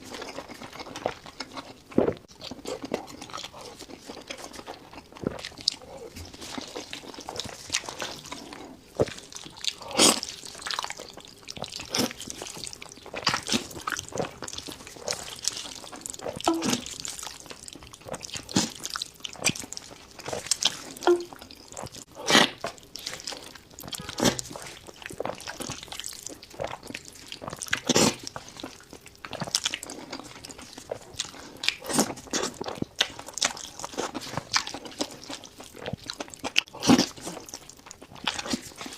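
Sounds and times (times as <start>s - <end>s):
wet chewing and slurping: 0.0s - 38.9s.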